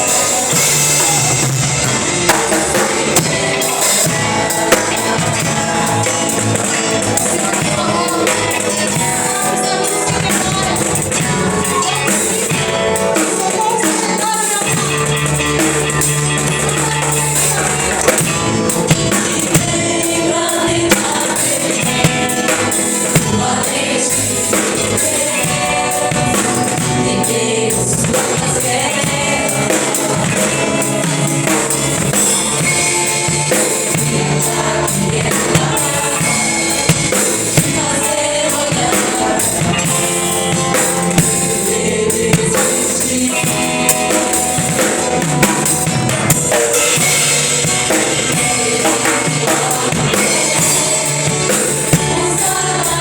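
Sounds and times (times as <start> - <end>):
band playing: 0.0 - 53.0
drum accents: 0.0 - 53.0
voices singing gospel: 0.0 - 53.0.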